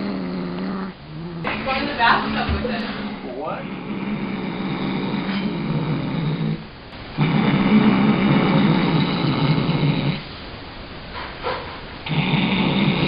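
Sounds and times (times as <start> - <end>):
cat growling: 0.0 - 10.3, 12.0 - 13.0.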